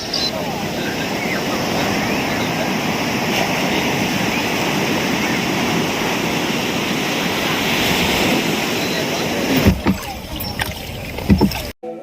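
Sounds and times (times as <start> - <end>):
rushing water: 0.0 - 11.8.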